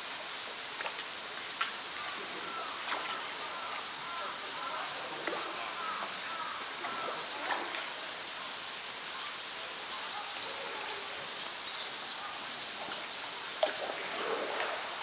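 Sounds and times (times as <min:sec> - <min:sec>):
background hiss: 0:00.0 - 0:15.0
light water splashing: 0:00.3 - 0:15.0
faint distant voices: 0:01.8 - 0:15.0.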